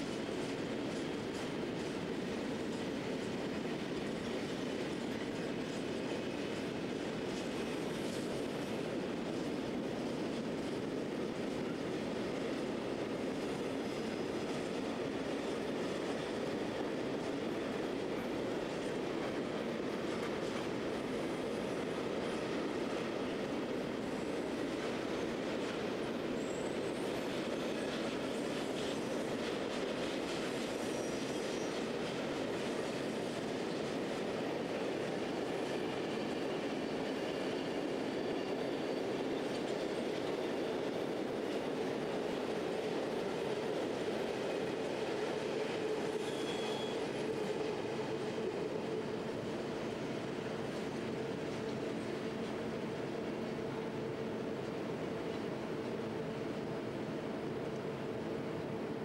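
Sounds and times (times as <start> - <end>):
train wagons rumbling on rails: 0.0 - 59.0
train wheel squeals: 0.0 - 59.0.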